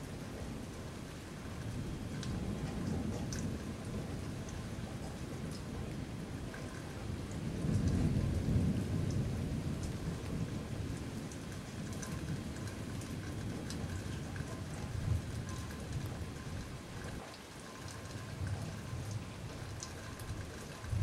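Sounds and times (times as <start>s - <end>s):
thunder rumbling: 0.0s - 17.3s, 17.9s - 21.0s
steady rain: 0.0s - 21.0s.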